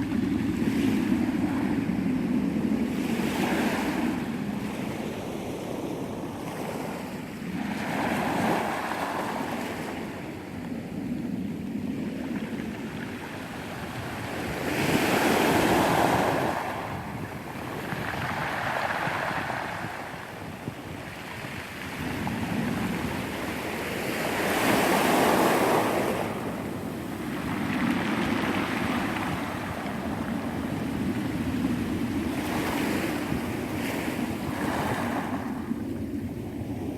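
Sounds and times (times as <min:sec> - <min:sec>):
sea waves washing ashore: 0:00.0 - 0:36.9.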